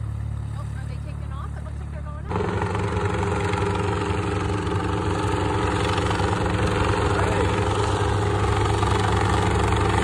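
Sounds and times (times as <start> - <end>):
helicopter flying overhead: 0.0 - 10.0.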